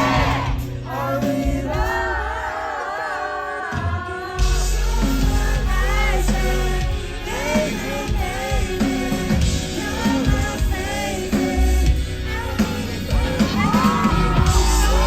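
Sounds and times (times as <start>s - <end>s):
deep bass: 0.0s - 2.4s, 4.4s - 15.0s
person singing lead vocal: 0.0s - 15.0s
pop rock band playing: 0.0s - 15.0s.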